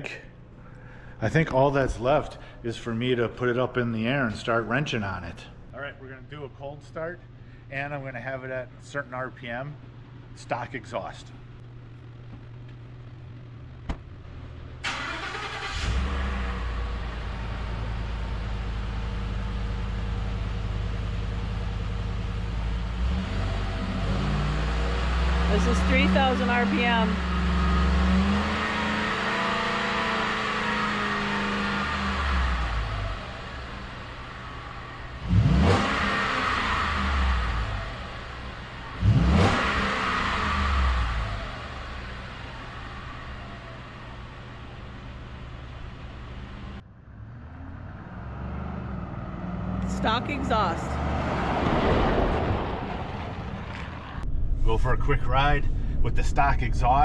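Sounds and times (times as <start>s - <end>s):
truck engine cranking and idling: 9.4s - 57.0s.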